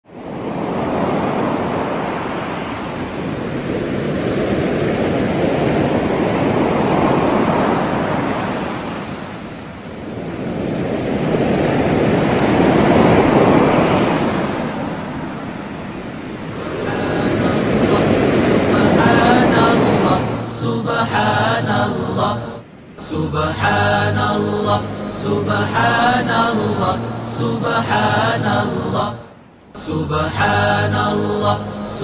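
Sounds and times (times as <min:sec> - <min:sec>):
ocean surf washing in: 0:00.0 - 0:32.0.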